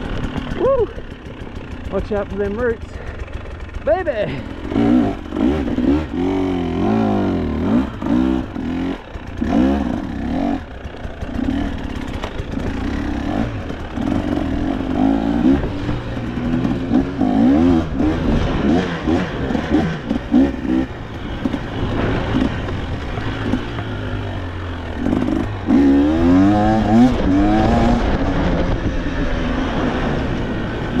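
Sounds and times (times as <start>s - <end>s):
dirt bike engine revving: 0.0s - 31.0s
knocks and rattles from bike: 0.0s - 31.0s.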